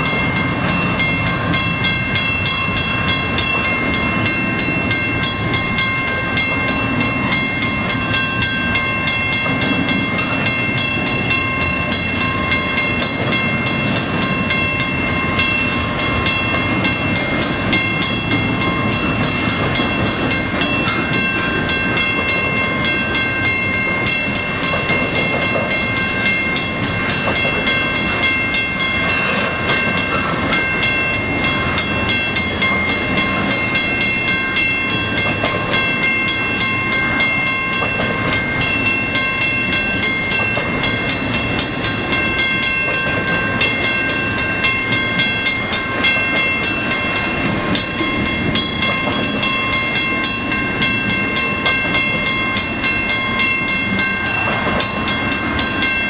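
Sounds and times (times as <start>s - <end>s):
crossing bell ringing: 0.0s - 56.0s
train wheels clacking over joints: 0.0s - 56.0s.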